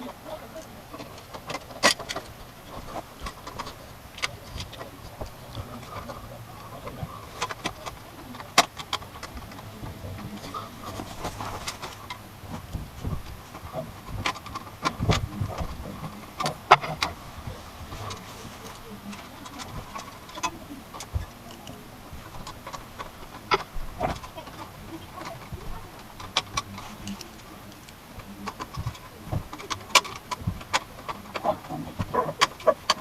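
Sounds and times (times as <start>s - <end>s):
computer parts clicking and knocking: 0.6s - 33.0s.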